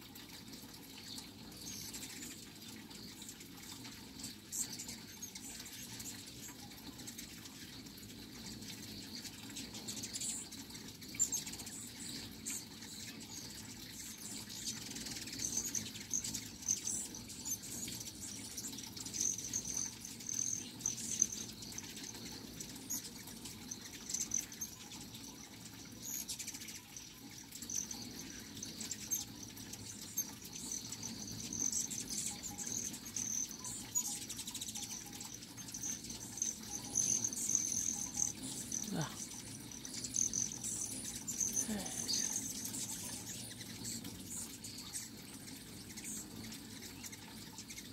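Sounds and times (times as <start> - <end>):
high bird chirps and twitters: 0.1 - 47.9
hummingbird wings buzzing: 0.1 - 47.9.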